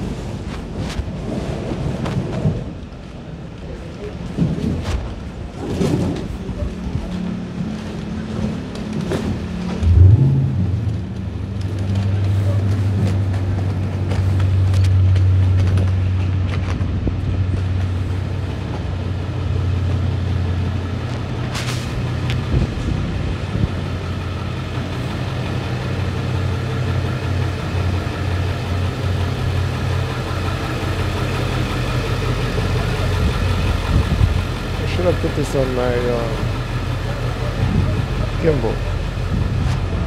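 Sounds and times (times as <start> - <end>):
car engine idling: 6.5 - 40.0.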